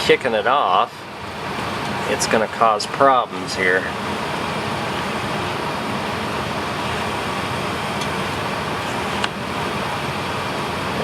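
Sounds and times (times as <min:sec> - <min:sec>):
furnace blower fan rushing: 0:00.0 - 0:11.0.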